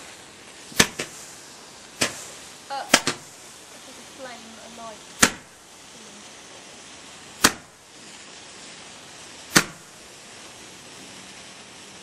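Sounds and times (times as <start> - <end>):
firework bangs with echo: 0.0 - 5.9, 6.5 - 11.1.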